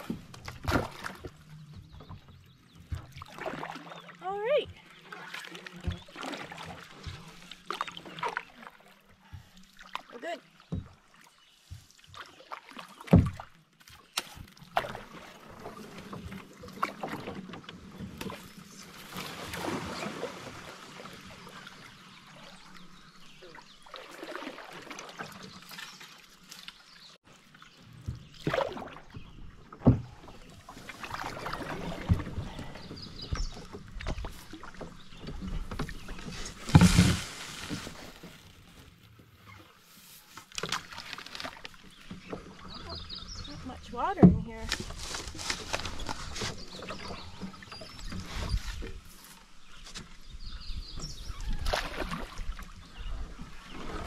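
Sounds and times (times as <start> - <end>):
paddle swishing through water: 0.0 - 54.0.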